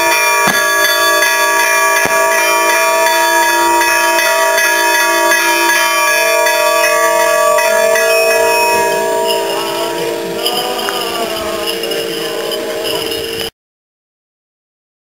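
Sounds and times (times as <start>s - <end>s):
church bells ringing: 0.0s - 13.5s.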